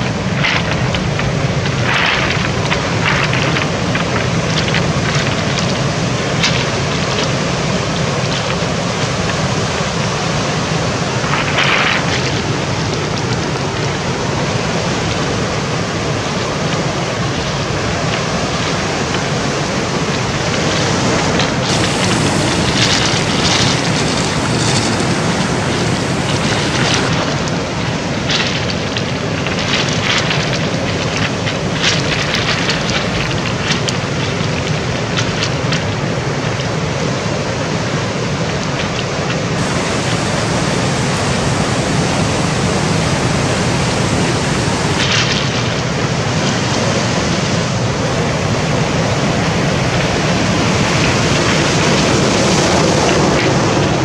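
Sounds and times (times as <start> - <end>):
constant low hum: 0.0 - 54.0
sea waves: 0.0 - 54.0
wind on microphone: 0.0 - 54.0.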